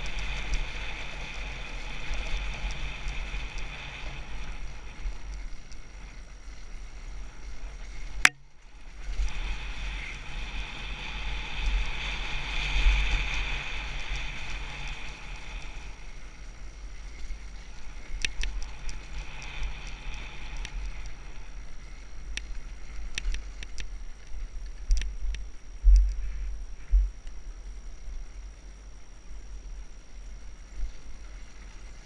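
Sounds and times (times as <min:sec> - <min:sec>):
dirt bike engine running: 0:00.0 - 0:32.0
wind rumbling on microphone: 0:00.0 - 0:32.0.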